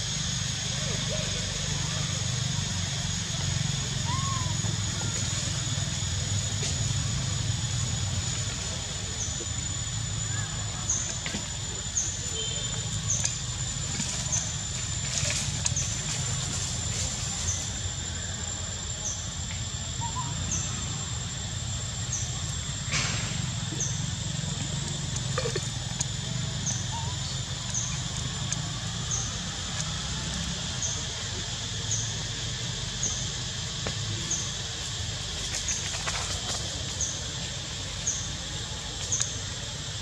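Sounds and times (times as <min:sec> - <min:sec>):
steady high drone: 0:00.0 - 0:40.0.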